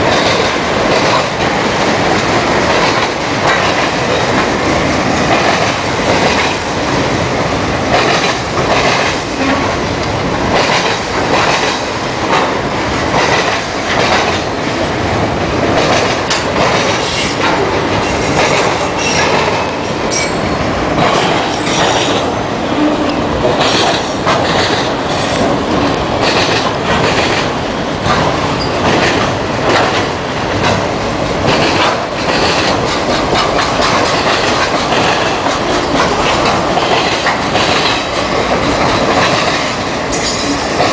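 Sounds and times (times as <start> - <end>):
freight train rolling past: 0.0 - 40.9
train wheels clicking over rail joints: 0.0 - 40.9.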